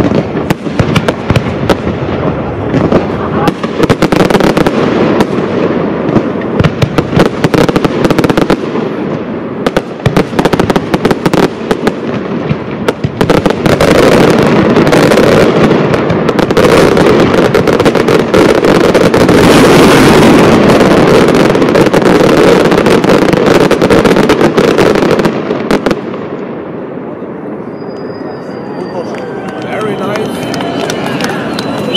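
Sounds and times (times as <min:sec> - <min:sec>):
fireworks bangs and crackle: 0:00.0 - 0:31.9.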